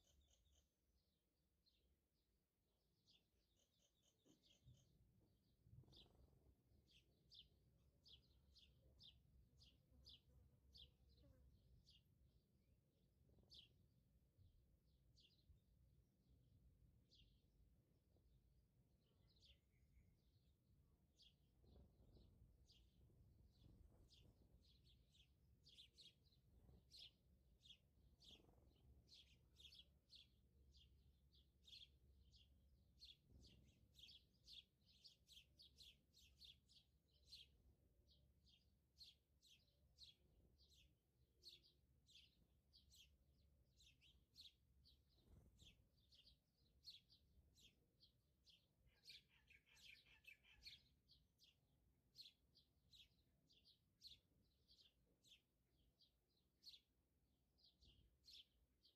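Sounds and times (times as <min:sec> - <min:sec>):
faint bird chirping: 0:02.9 - 0:12.4, 0:18.9 - 0:58.9.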